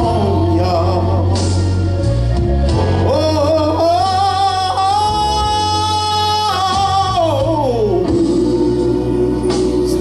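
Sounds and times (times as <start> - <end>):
low musical accompaniment: 0.0 - 10.0
person singing gospel: 0.0 - 10.0.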